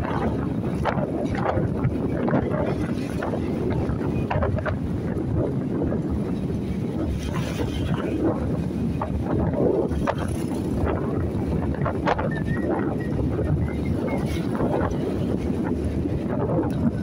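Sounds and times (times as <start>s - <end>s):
road and vehicle rumble: 0.0s - 17.0s
wind buffeting microphone: 0.0s - 17.0s.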